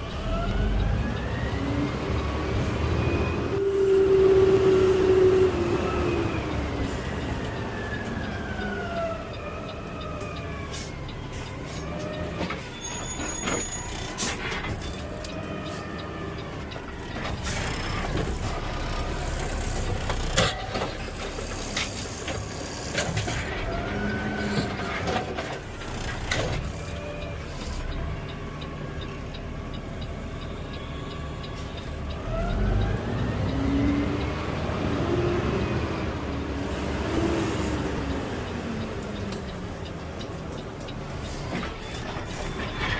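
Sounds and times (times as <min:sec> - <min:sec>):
truck engine and drivetrain whine: 0:00.0 - 0:42.9.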